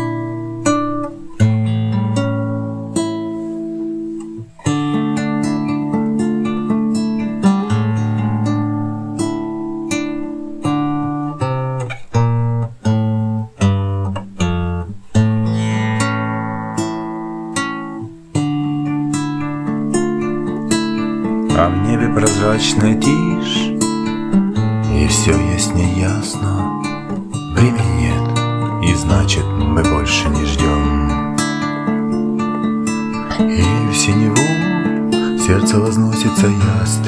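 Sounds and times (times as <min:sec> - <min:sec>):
classical guitar fingerstyle: 0:00.0 - 0:37.0.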